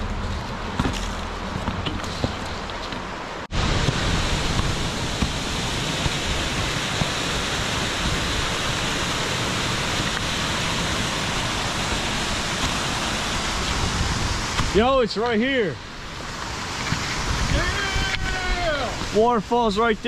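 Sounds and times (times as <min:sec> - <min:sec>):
waterfall rushing: 0:03.1 - 0:20.0.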